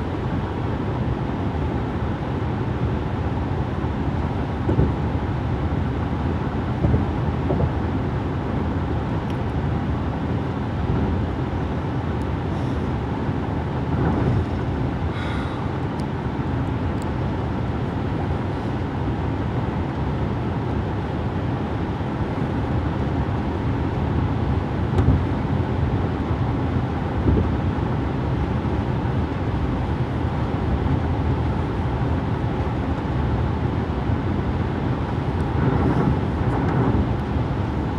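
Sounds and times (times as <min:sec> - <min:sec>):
car cabin road rumble: 0:04.2 - 0:37.9.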